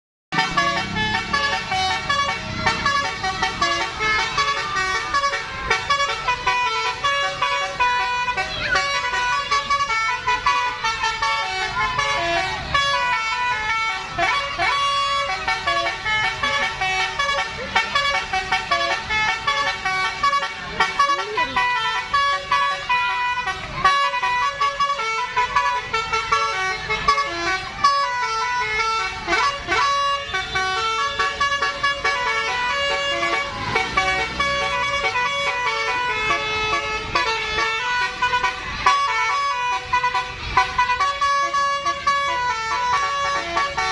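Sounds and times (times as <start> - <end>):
multi-note electric bus horn melody: 0.3 - 43.9.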